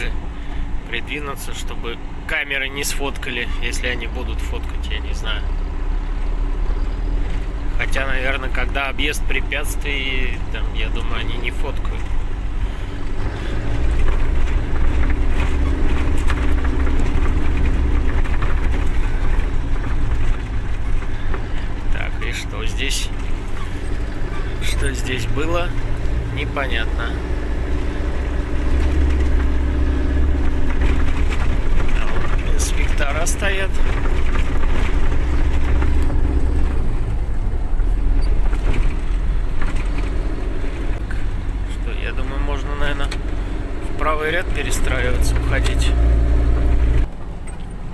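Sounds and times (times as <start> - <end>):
road noise: 0.0 - 47.9
truck engine rumbling: 0.0 - 47.9.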